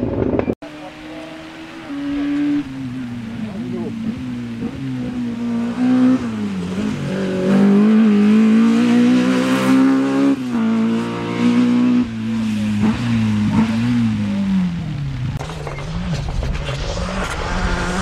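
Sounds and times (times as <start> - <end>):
rally car engine accelerating: 0.6 - 18.0.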